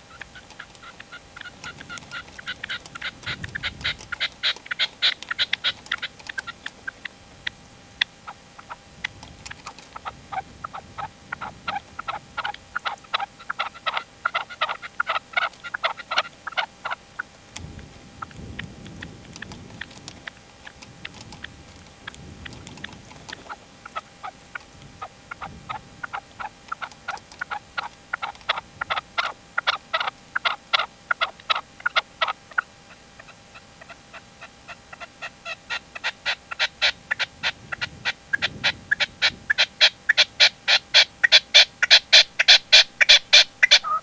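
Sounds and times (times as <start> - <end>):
partridge calling sharp notes: 0.0 - 17.4, 22.4 - 44.0.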